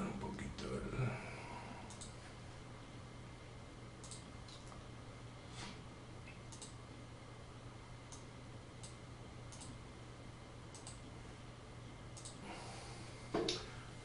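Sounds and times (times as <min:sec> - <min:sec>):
low hum of room noise: 0:00.0 - 0:14.0.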